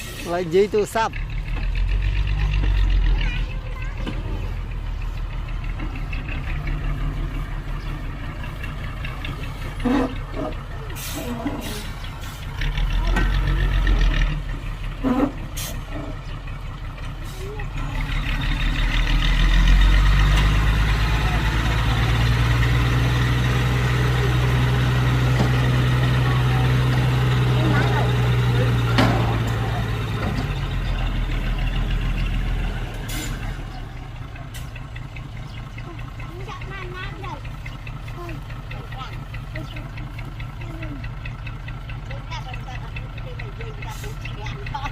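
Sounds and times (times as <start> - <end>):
heavy diesel machinery engine: 0.0 - 44.9.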